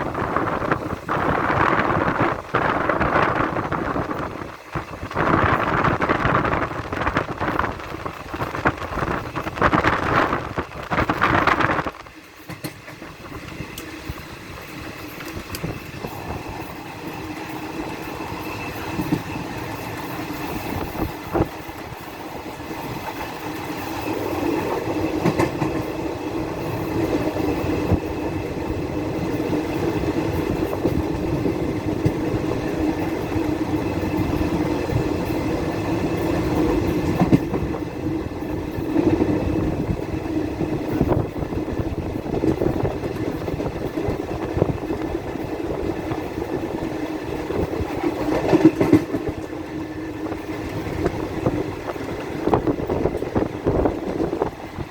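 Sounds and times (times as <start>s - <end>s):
gusty noise: 0.0s - 54.9s
train rumbling on rails: 0.0s - 54.9s
train wheels clacking: 0.0s - 54.9s.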